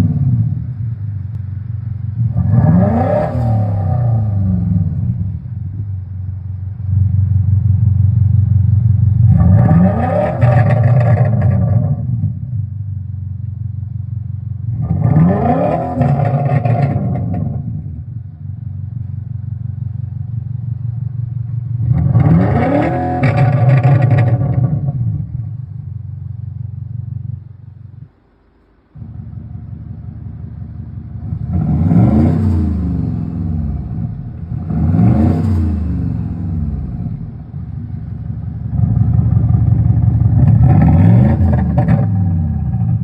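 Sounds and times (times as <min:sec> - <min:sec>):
car exhaust idling and revving: 0:00.0 - 0:43.0.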